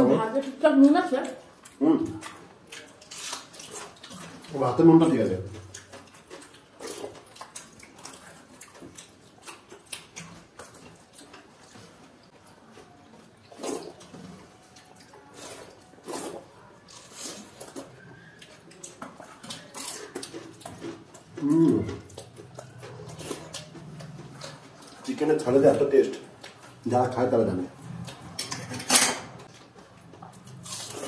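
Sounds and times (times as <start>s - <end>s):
chewing and lip-smacking: 0.3s - 31.0s.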